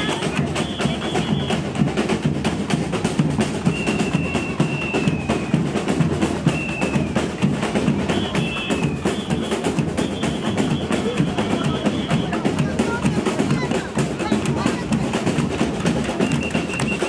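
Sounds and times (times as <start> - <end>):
drums and percussion beat: 0.0 - 17.0.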